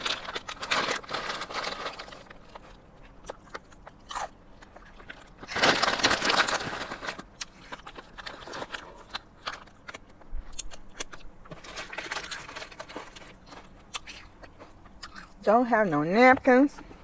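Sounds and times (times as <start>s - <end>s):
chip bag crinkling: 0.0s - 15.3s
chewing and crunching chips: 0.0s - 17.0s.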